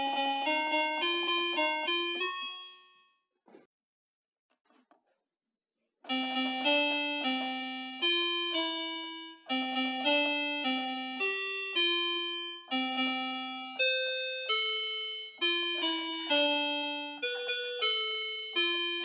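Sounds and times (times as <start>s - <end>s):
slow keyboard melody: 0.0s - 3.1s, 6.1s - 19.0s.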